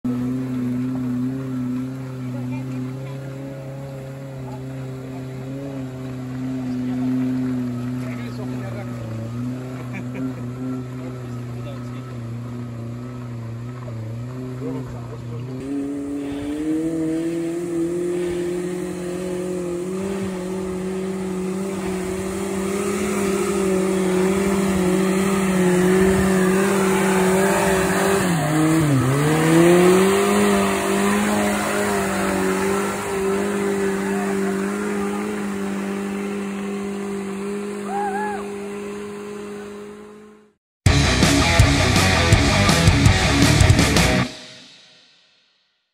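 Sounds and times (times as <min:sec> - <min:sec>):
car engine at high revs: 0:00.0 - 0:44.4.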